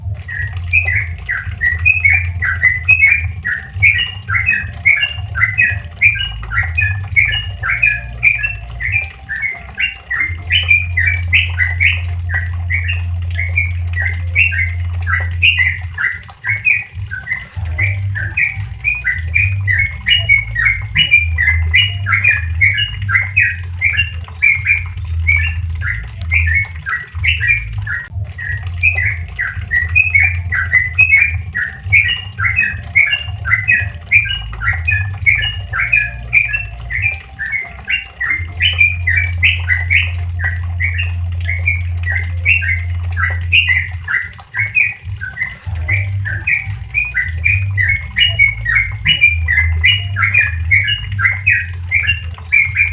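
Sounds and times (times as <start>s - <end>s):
bird singing bubbly notes: 0.0s - 52.9s.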